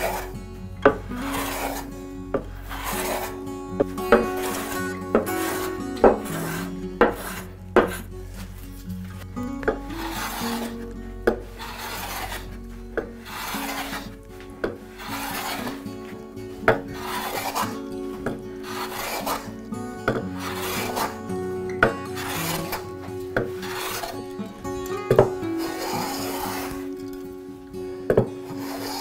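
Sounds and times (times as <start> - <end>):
hand plane shaving wood: 0.0 - 8.6, 9.6 - 27.3, 28.1 - 29.0.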